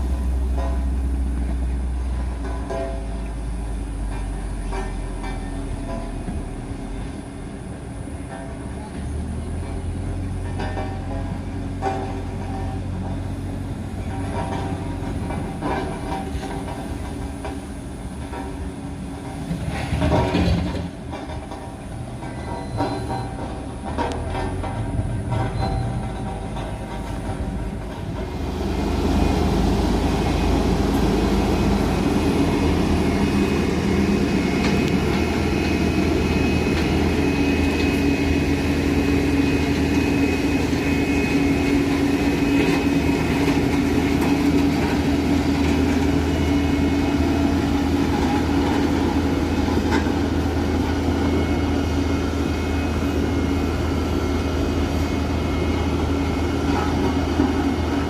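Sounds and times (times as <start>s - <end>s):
heavy truck engine droning: 0.0s - 58.0s
steady whine: 0.0s - 58.0s.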